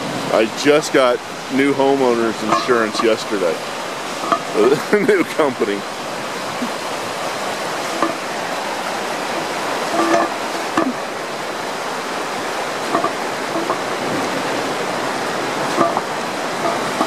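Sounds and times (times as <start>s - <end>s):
water rushing from drain: 0.0s - 17.0s.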